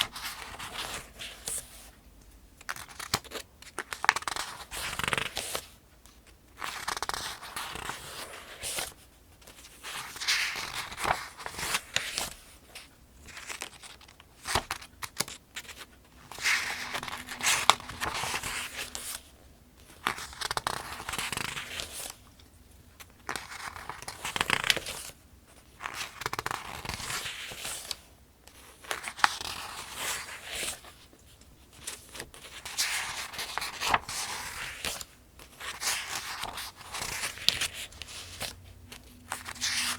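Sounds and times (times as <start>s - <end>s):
paper pages turning: 0.0s - 1.9s, 2.6s - 5.8s, 6.6s - 22.2s, 23.0s - 25.2s, 25.8s - 31.0s, 31.7s - 39.9s.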